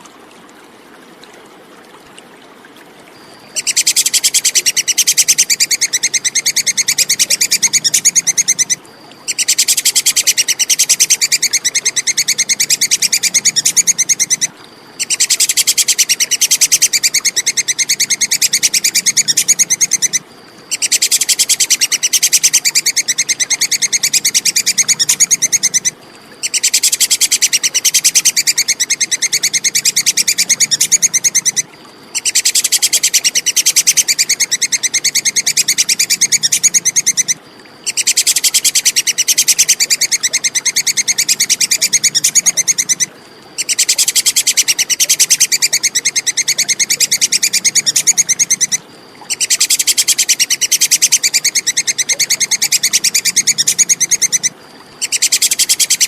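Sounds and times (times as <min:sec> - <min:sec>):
squirrel chattering call: 0:03.5 - 0:56.0.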